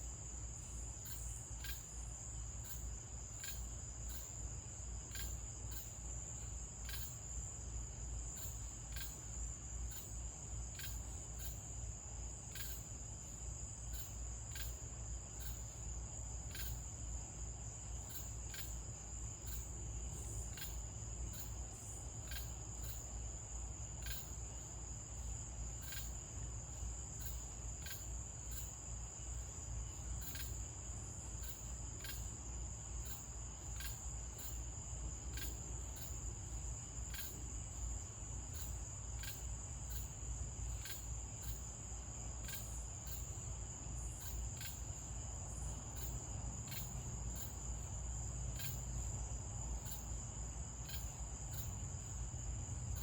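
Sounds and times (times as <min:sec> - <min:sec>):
cricket chirps: 0:00.0 - 0:53.0
crickets trilling: 0:00.0 - 0:53.0.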